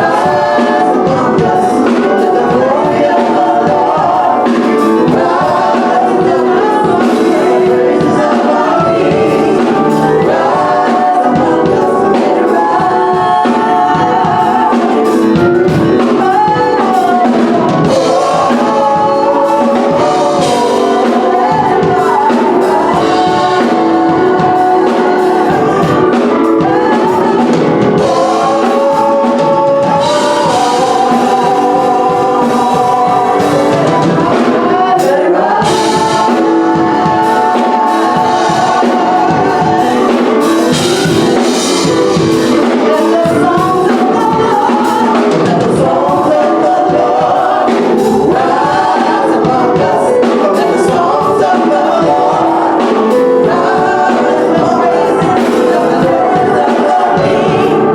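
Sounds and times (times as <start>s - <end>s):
drums: 0.0s - 57.9s
gospel choir singing: 0.0s - 57.9s.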